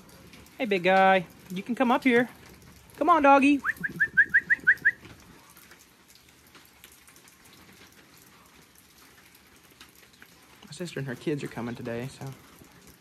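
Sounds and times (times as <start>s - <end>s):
steady rain pattering: 0.0s - 13.0s.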